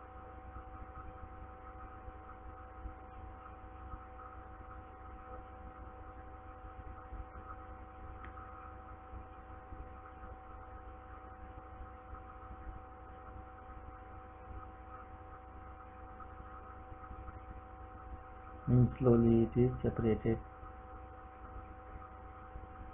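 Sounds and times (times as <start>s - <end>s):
steady hum of held tones: 0.0s - 22.9s.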